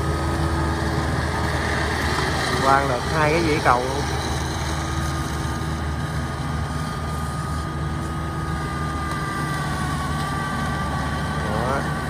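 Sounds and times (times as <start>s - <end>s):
harvester engine drone: 0.0s - 12.0s
steady high whine: 0.0s - 12.0s.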